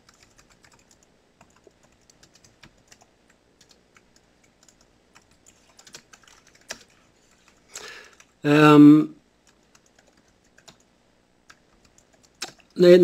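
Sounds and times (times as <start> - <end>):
faint computer keyboard typing: 0.0 - 8.4, 9.4 - 12.8.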